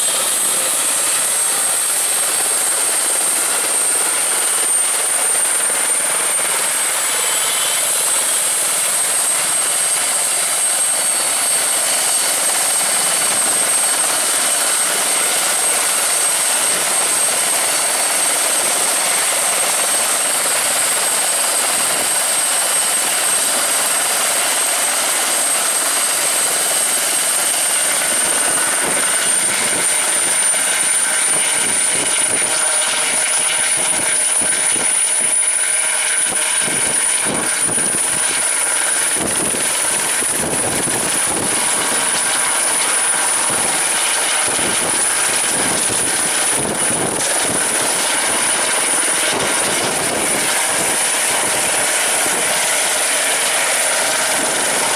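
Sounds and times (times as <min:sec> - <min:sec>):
helicopter rotor and exhaust noise: 0:00.0 - 0:54.9
helicopter turbine whine: 0:00.0 - 0:54.9.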